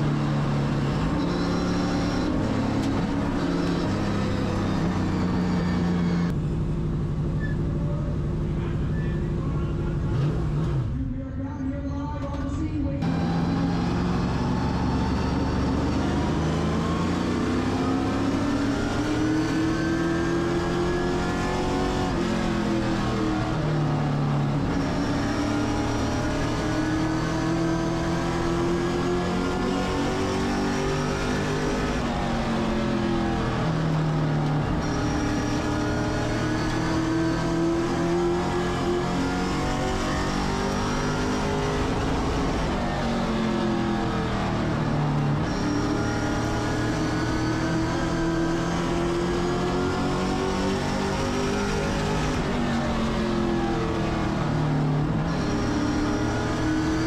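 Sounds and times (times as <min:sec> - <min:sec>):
race car engine at speed: 0:00.0 - 0:57.0.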